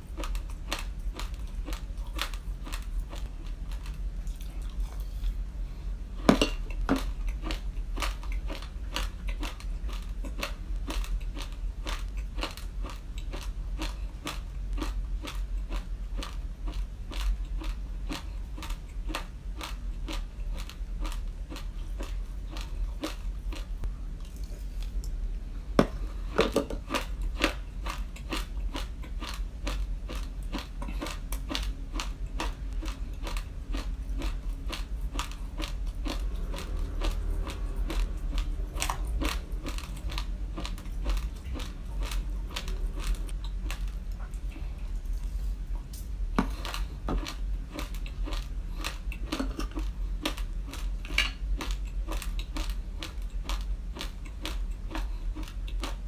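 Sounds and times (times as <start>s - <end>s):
chewing crunchy raw rice: 0.0s - 5.4s, 6.2s - 25.2s, 26.0s - 56.0s.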